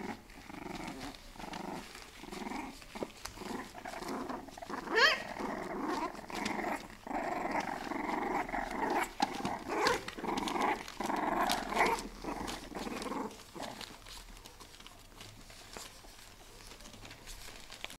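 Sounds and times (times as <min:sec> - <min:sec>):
puppies growling: 0:00.0 - 0:18.0
scratches and rustles: 0:00.0 - 0:18.0.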